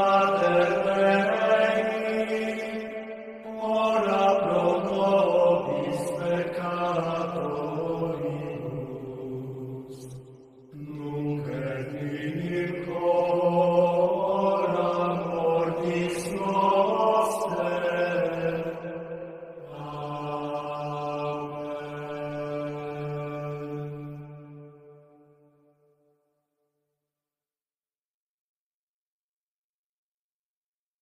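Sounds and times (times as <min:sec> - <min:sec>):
sung chant with long notes: 0:00.0 - 0:25.4.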